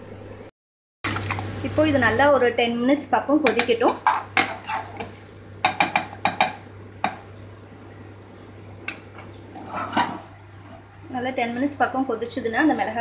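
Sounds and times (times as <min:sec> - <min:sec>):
steady low hum: 0:01.1 - 0:13.0.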